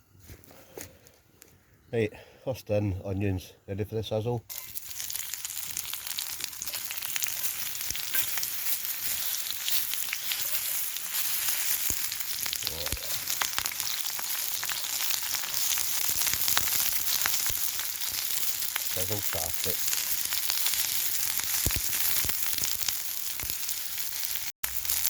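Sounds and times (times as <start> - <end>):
campfire crackling: 4.5 - 25.0
onions sizzling in a skillet: 4.5 - 25.0.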